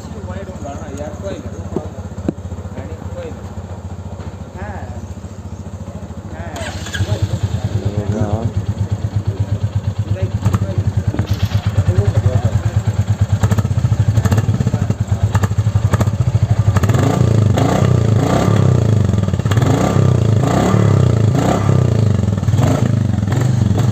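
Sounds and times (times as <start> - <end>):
motorcycle engine idling: 0.0 - 23.9
motorcycle throttle blips: 0.0 - 23.9.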